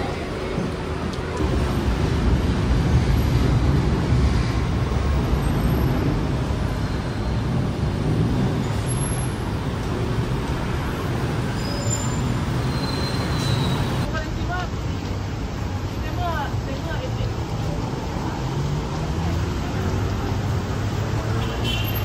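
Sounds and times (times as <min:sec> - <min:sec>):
heavy road traffic rumble: 0:00.0 - 0:22.0.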